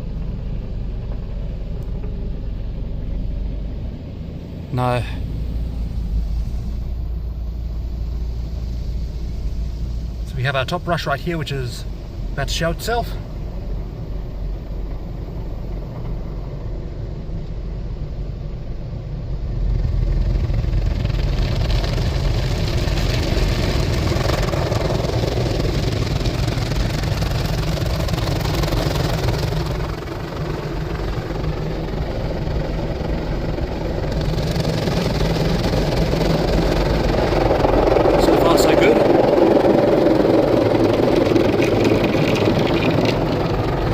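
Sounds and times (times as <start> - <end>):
steady low rumble: 0.0 - 43.9.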